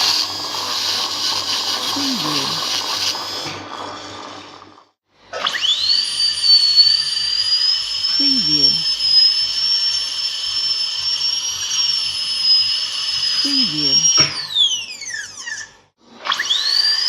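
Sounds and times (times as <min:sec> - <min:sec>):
dental drill whine: 0:00.0 - 0:04.2, 0:05.4 - 0:17.0.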